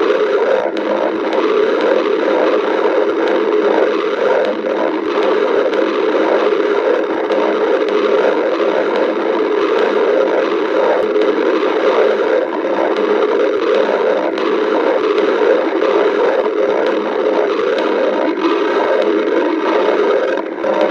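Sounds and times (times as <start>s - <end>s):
stomach growling: 0.0s - 20.9s.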